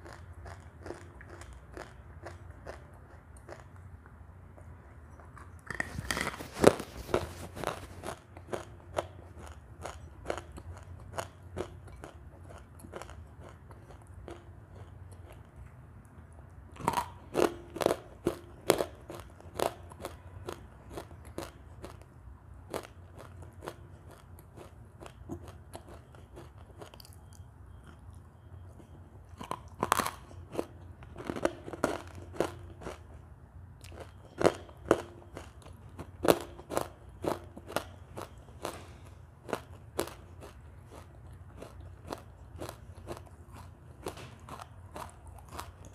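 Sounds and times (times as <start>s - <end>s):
crunching and chewing clay: 0.0s - 45.9s.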